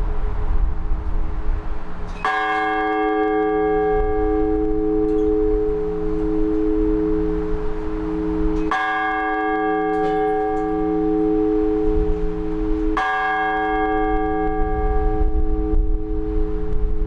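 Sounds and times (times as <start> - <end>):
steady hum: 0.0 - 17.0
large church bell ringing: 1.5 - 17.0.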